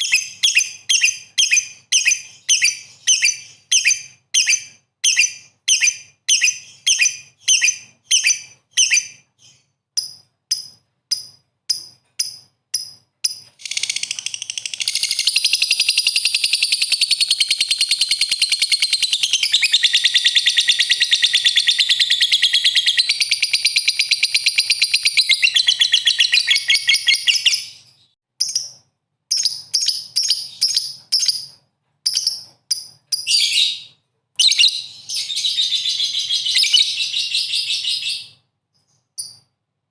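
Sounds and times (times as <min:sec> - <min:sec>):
songbird chirps and trill: 0:00.0 - 0:39.6.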